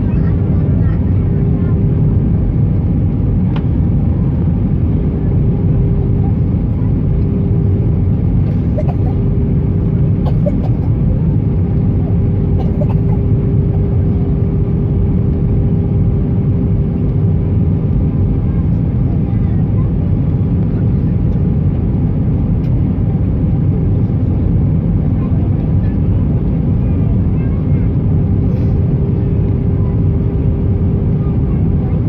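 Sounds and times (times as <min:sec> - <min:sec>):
aircraft cabin engine roar: 0:00.0 - 0:32.0
constant hum: 0:00.0 - 0:32.0.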